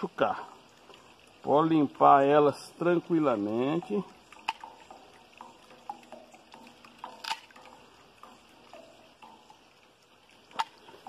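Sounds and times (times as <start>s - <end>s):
water dripping: 0.0s - 11.0s.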